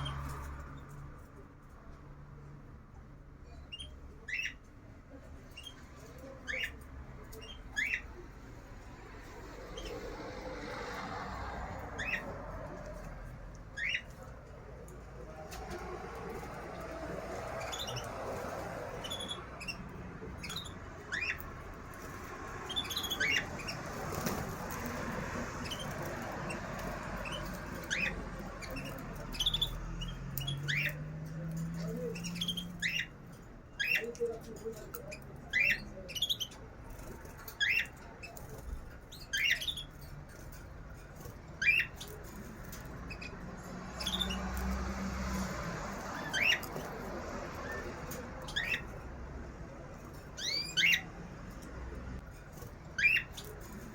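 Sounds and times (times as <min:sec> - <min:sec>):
low background murmur: 0:00.0 - 0:53.9
small birds chirping: 0:00.0 - 0:53.9.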